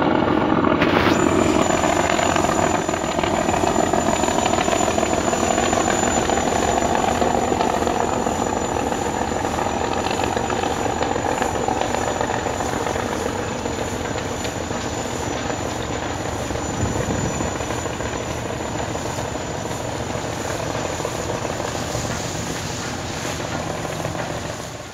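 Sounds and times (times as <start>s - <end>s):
diesel engines droning: 0.0s - 24.9s.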